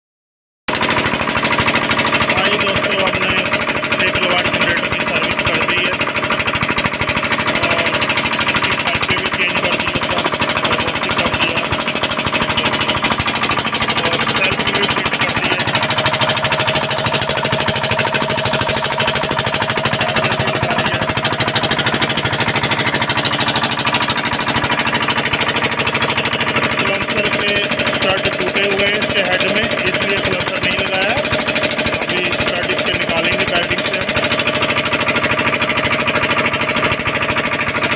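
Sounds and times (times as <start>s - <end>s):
generator engine knocking: 0.7s - 37.9s.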